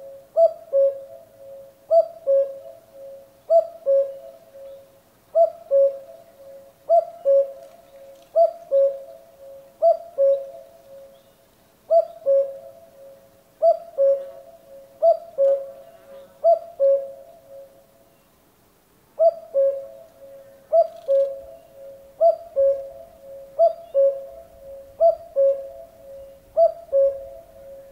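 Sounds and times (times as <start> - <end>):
cuckoo calling: 0.0 - 17.8, 19.2 - 27.9.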